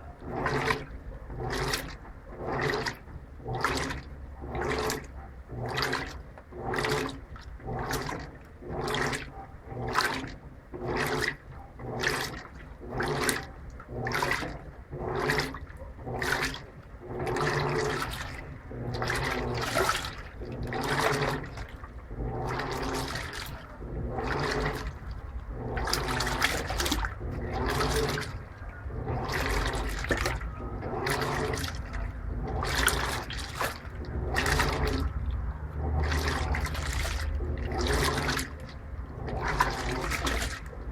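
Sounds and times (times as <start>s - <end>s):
low motor hum: 0.0s - 40.9s
water and laundry sloshing: 0.0s - 40.9s.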